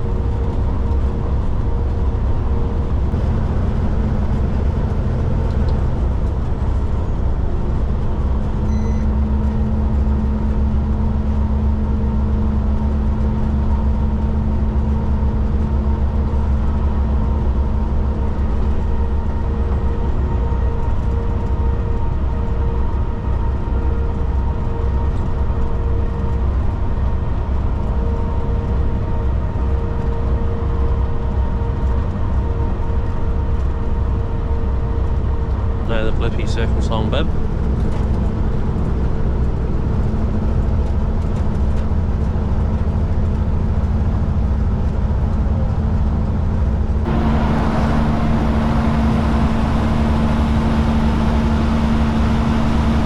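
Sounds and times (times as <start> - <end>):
diesel truck engine and road noise: 0.0 - 53.0.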